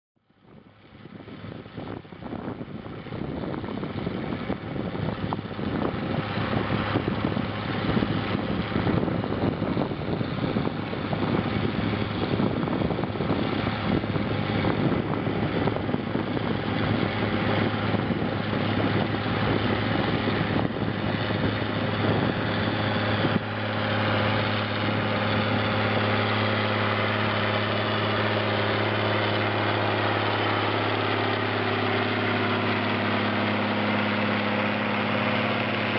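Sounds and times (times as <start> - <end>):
tractor diesel engine running: 0.2 - 35.9.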